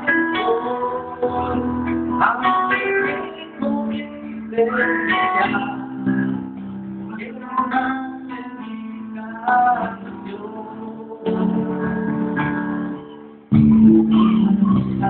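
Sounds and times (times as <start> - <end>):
man singing into microphone: 0.0 - 13.2
guitar accompaniment: 0.0 - 15.0.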